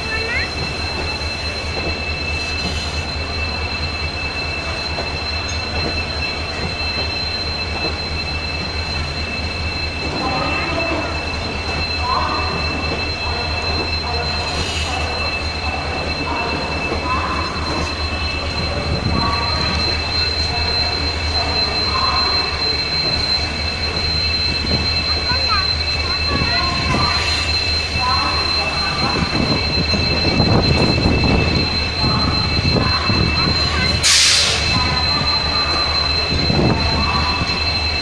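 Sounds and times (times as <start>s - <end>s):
train coaches rumbling past: 0.0s - 38.0s
two-tone wheel squeal: 0.0s - 38.0s.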